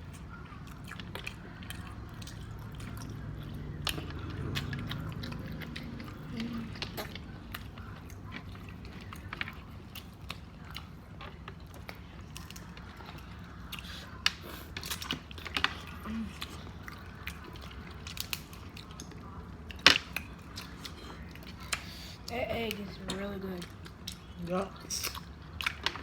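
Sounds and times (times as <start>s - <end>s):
chewing and mouth noises: 0.0s - 26.0s
clicks and crackles of seafood: 0.0s - 26.0s.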